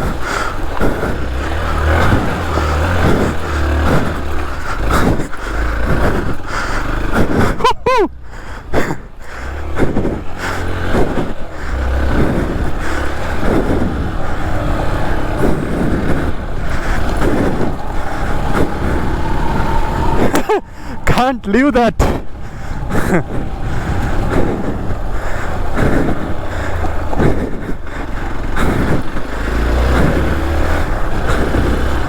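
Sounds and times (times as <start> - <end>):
wind rumble on microphone: 0.0 - 7.7, 8.5 - 32.0
motorcycle engine running: 0.0 - 32.0.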